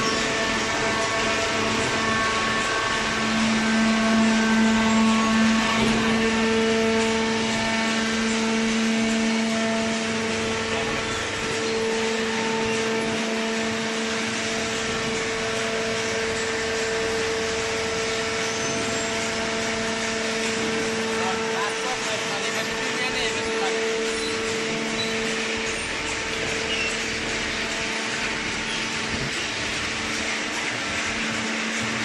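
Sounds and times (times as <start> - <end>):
hydraulic pump motor humming: 0.0 - 32.0.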